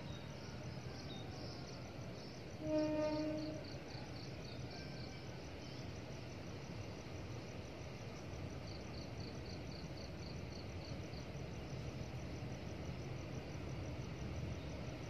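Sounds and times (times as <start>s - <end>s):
faint insects chirping: 0.0s - 15.0s
second insect chirp: 0.0s - 15.0s.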